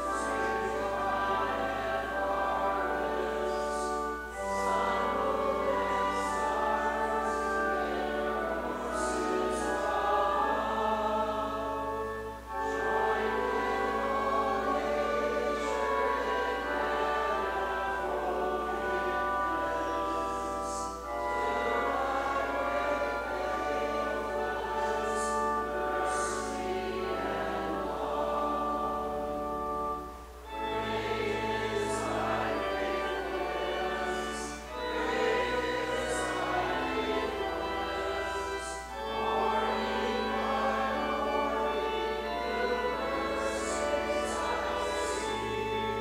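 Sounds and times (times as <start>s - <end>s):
congregation singing a hymn: 0.0s - 46.0s
organ accompaniment: 0.0s - 46.0s.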